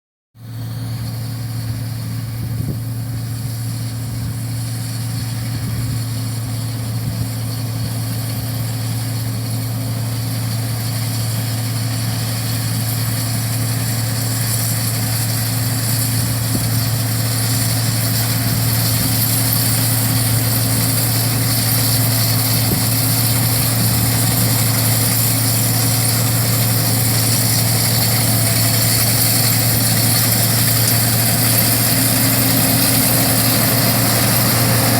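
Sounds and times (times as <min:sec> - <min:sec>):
harvest machinery engine hum: 0:00.4 - 0:34.9
machinery hiss: 0:00.5 - 0:34.9.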